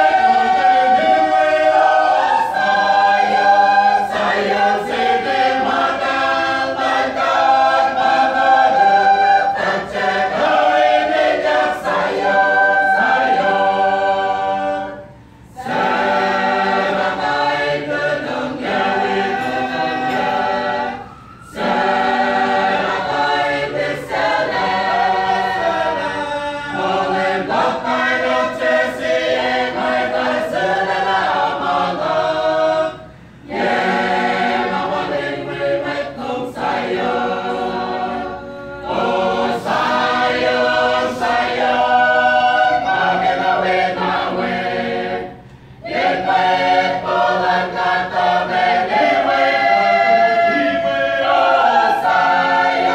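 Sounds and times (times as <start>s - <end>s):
mixed choir singing unaccompanied: 0.0s - 52.9s.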